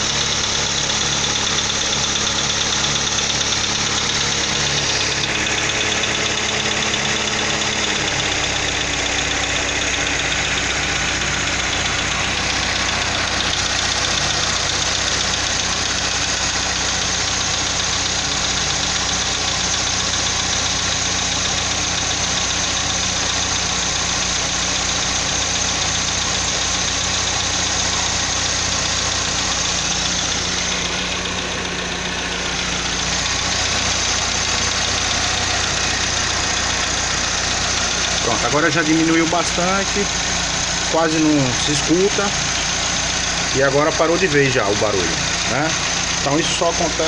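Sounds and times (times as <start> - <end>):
car engine idling: 0.0 - 47.0
engine tapping: 0.0 - 47.0.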